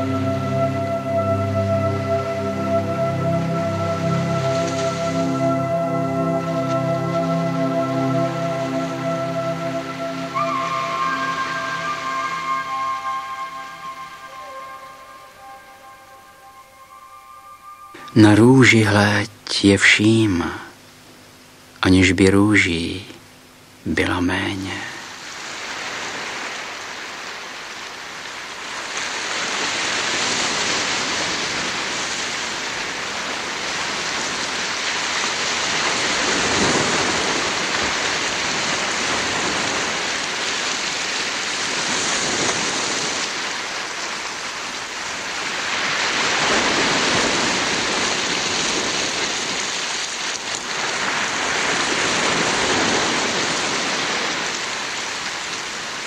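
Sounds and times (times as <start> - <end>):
rushing water: 0.0 - 18.8, 24.9 - 56.0.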